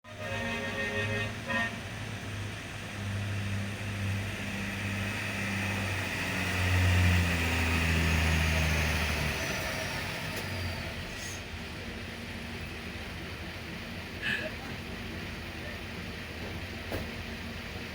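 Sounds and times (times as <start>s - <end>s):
excavator diesel engine droning: 0.0s - 17.9s.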